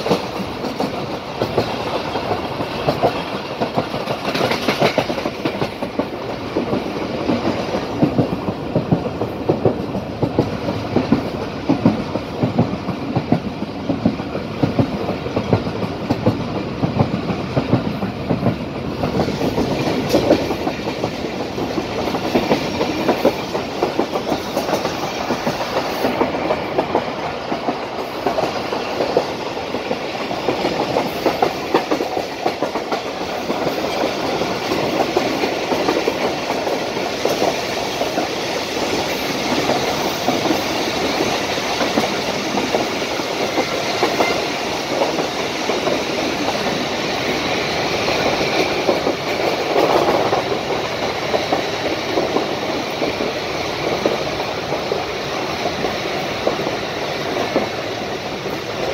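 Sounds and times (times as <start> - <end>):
train coaches rumbling: 0.0 - 58.9.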